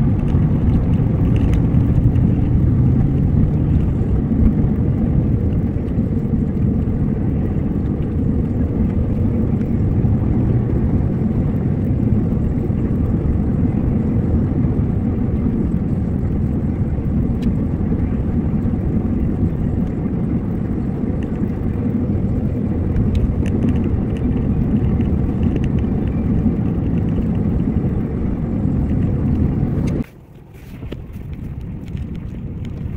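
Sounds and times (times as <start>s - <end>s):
car cabin road and engine rumble: 0.0s - 32.9s.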